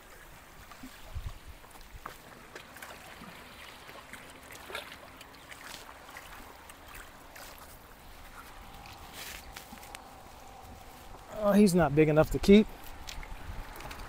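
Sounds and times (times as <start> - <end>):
water lapping against rocks: 0.0 - 14.0.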